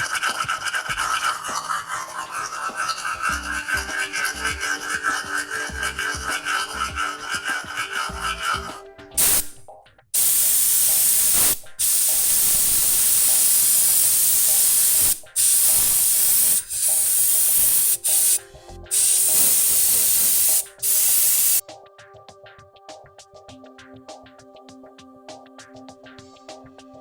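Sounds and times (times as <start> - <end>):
spray paint hissing: 0.0 - 21.6.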